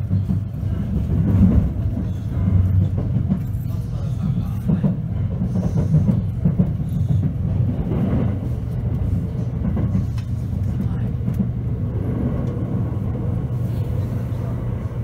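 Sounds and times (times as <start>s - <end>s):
rail joint clicks: 0.0s - 14.0s
train wheels rumbling on rails: 0.0s - 15.0s.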